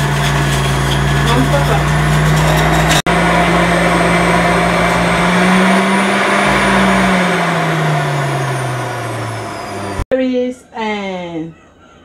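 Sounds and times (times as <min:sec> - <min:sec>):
juicer motor whining: 0:00.0 - 0:10.0.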